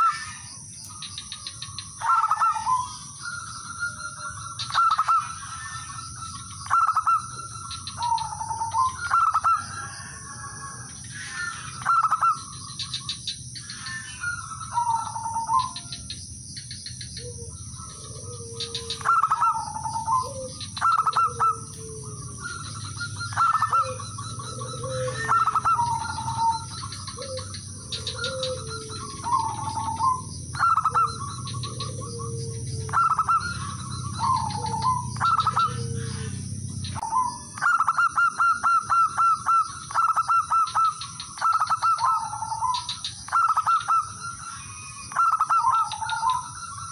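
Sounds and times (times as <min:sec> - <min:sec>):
dove cooing: 0:00.0 - 0:16.1, 0:16.8 - 0:46.9.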